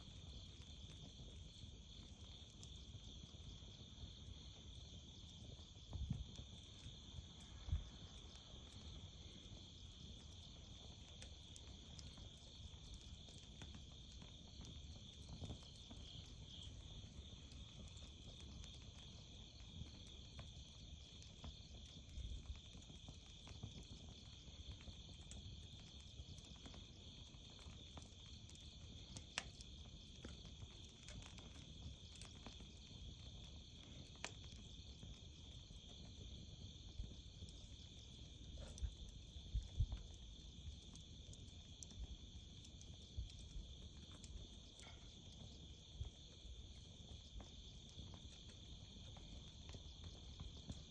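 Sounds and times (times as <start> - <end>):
campfire popping and crackling: 0.0 - 50.9
crickets chirping: 0.0 - 50.9.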